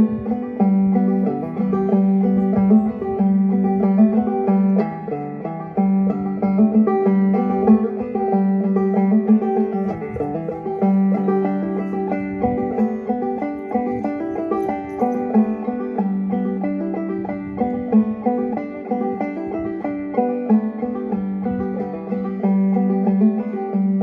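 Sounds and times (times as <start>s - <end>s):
banjo clawhammer picking: 0.0s - 24.0s.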